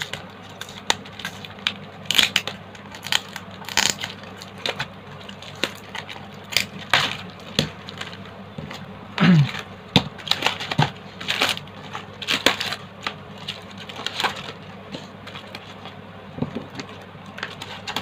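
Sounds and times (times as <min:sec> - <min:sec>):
plastic wrapping crinkling: 0:00.0 - 0:16.0, 0:16.6 - 0:18.0.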